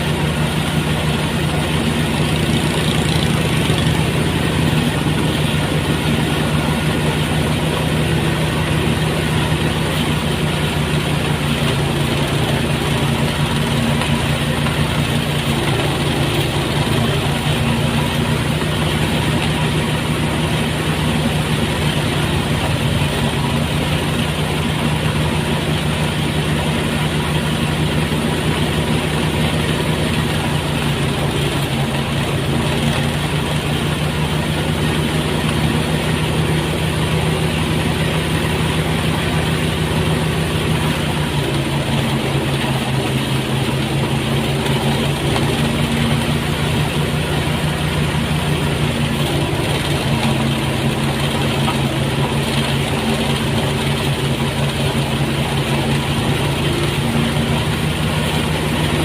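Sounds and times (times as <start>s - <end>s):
thresher engine humming: 0.0s - 59.0s.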